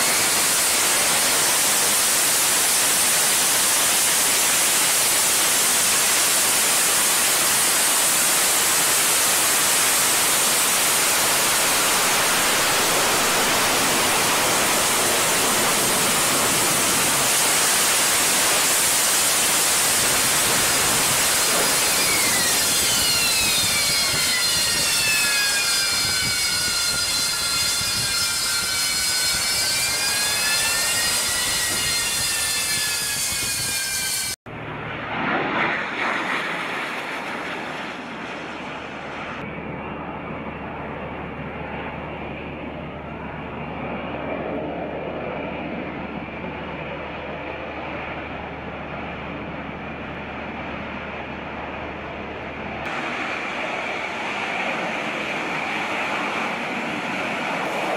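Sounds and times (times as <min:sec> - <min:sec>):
jet engine roar: 0:00.0 - 0:57.9
whining turbine tones: 0:00.0 - 0:57.9.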